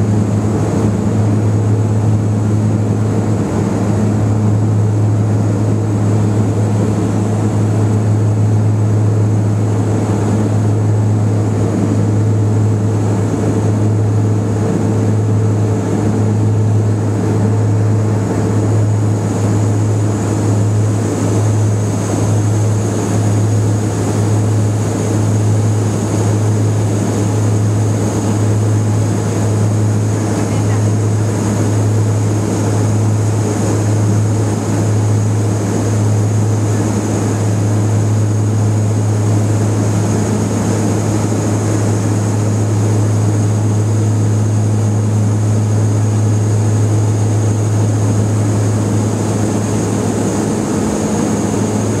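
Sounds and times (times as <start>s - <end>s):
high turbine whine: 0.0s - 52.0s
propeller drone: 0.0s - 52.0s.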